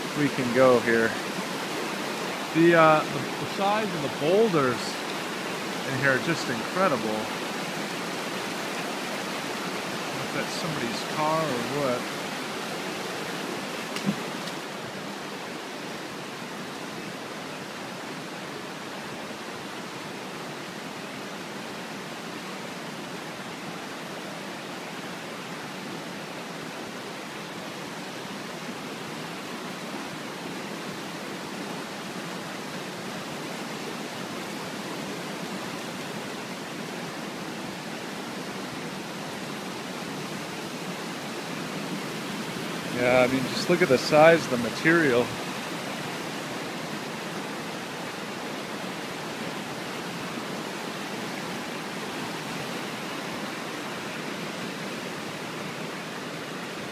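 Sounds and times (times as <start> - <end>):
creek rushing over rocks: 0.0 - 56.9.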